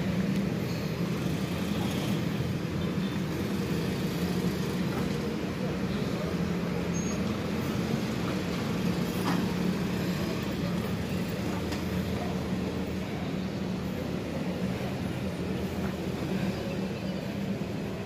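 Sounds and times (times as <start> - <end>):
road rumble: 0.0 - 18.0.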